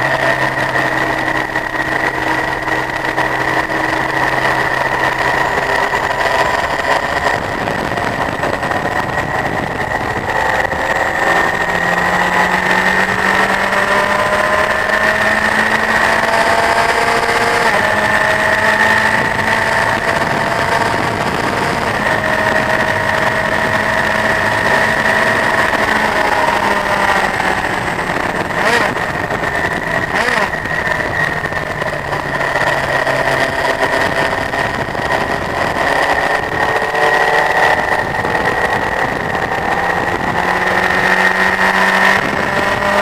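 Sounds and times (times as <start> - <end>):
motorcycle engine accelerating: 0.0 - 43.0
wind rushing: 0.0 - 43.0.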